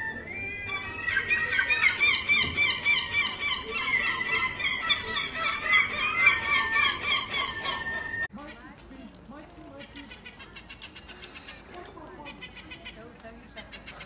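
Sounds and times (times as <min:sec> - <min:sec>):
penguins chirping calls: 0:00.0 - 0:08.7, 0:09.7 - 0:14.0.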